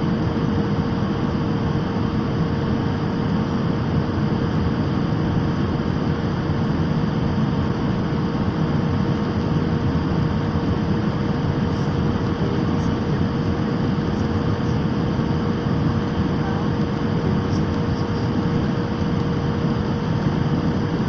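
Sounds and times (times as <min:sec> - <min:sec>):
airflow and engine noise: 0:00.0 - 0:21.0
faint steady hum: 0:00.0 - 0:21.0.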